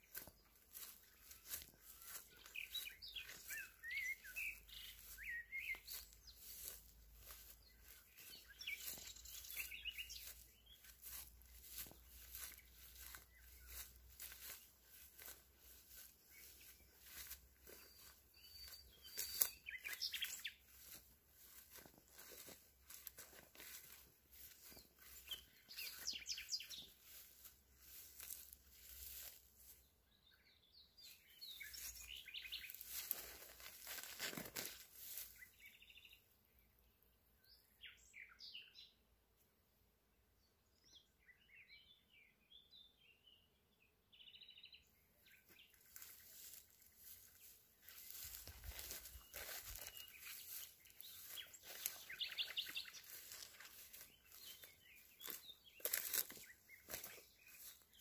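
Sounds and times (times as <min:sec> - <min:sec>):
small birds chirping: 0:00.0 - 0:39.1, 0:40.3 - 0:58.0.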